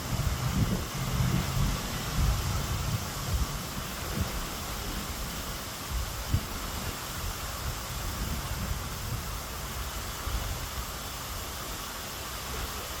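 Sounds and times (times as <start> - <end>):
wind on microphone: 0.0 - 11.4.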